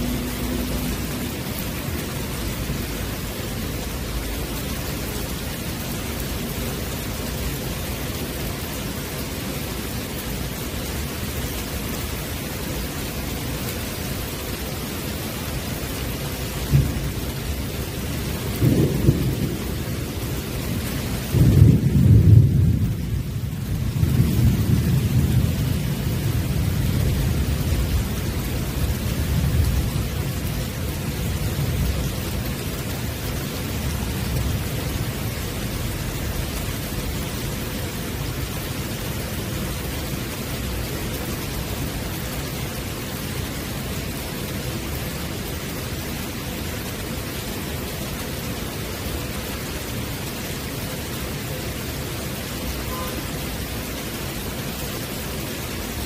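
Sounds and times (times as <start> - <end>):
rain on a wooden deck: 0.0 - 56.0.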